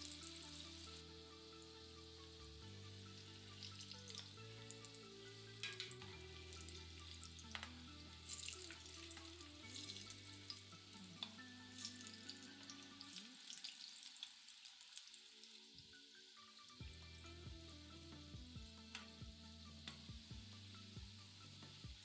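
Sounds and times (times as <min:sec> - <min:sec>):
food deep-frying in oil: 0:00.0 - 0:22.0.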